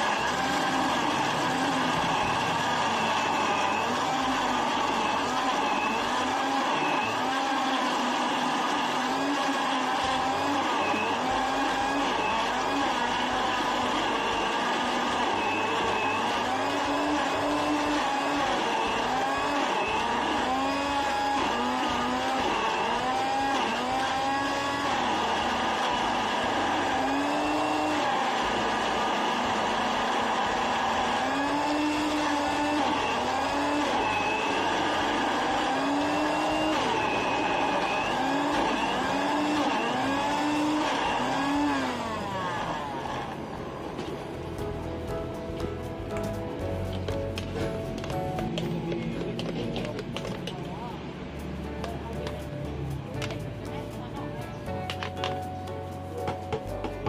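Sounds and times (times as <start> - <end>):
blender motor running: 0.0 - 55.2.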